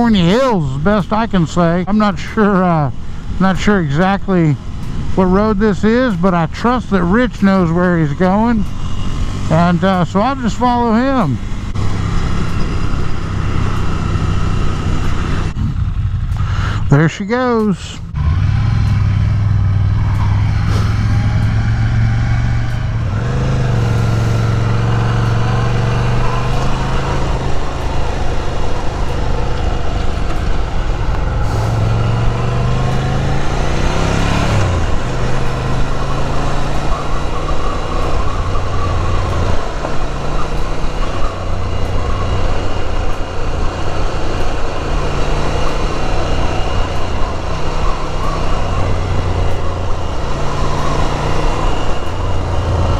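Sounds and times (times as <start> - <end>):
motorcycle engine running: 0.0 - 17.0, 17.6 - 52.9.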